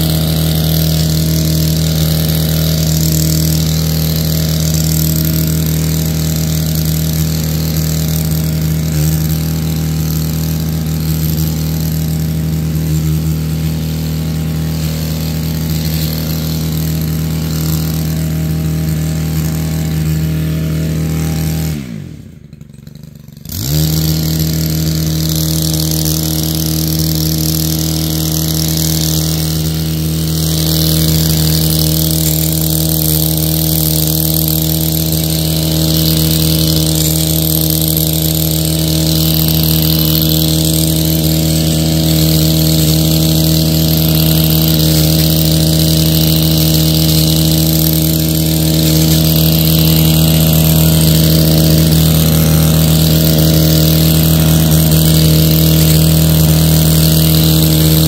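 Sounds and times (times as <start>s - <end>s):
hedge trimmer engine running: 0.0s - 58.0s.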